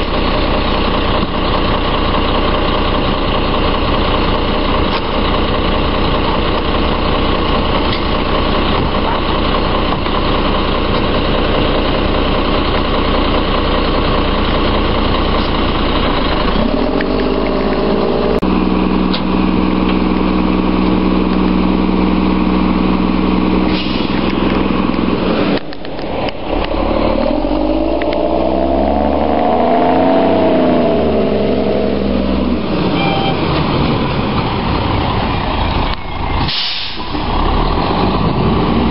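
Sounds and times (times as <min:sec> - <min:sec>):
garbage truck diesel engine: 0:00.0 - 0:38.9.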